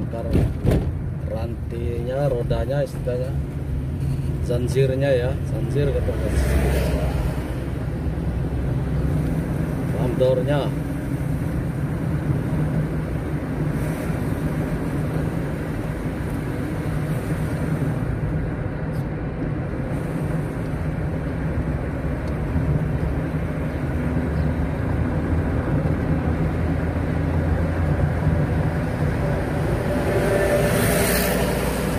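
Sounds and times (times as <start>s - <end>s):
road noise: 0.0s - 31.9s
vehicle engine hum: 0.0s - 31.9s.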